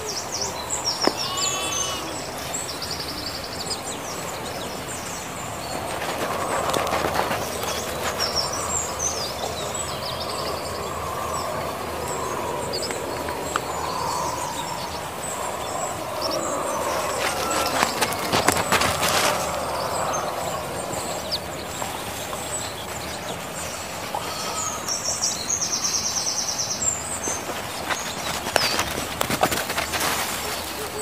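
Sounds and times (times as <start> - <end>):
small birds chirping: 0.0 - 31.0
steady background noise: 0.0 - 31.0.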